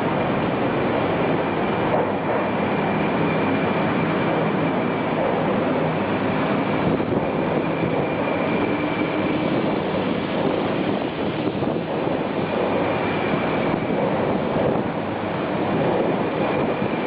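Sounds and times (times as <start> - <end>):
faint high whine: 0.0 - 17.0
train running slowly: 0.0 - 17.0.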